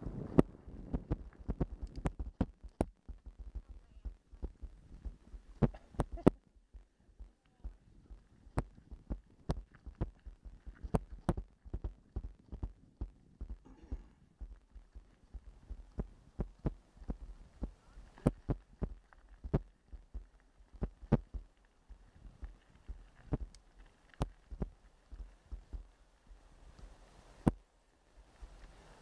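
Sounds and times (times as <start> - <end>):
bicycle rattling on rough trail: 0.0 - 29.0.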